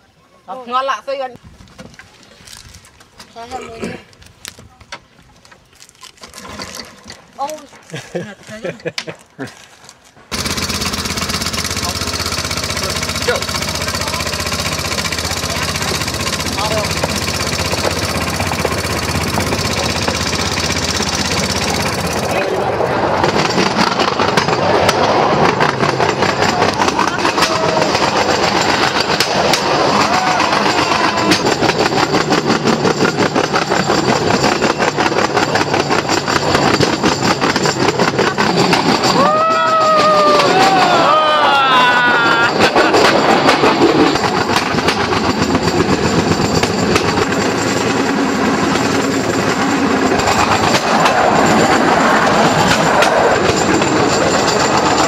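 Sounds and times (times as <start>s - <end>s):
small engine running: 10.3s - 55.0s
steel wheels rattling on track: 10.3s - 55.0s.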